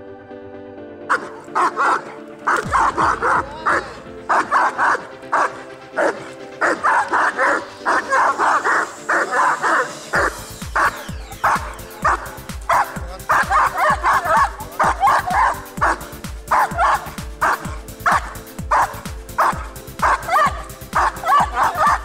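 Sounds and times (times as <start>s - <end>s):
dog barking aggressively: 1.1s - 22.0s.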